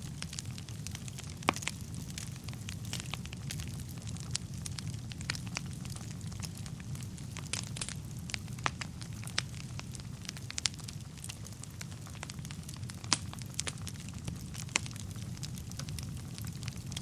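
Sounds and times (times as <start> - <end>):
burning logs crackling and popping: 0.0 - 17.0
flames rumbling: 0.0 - 17.0.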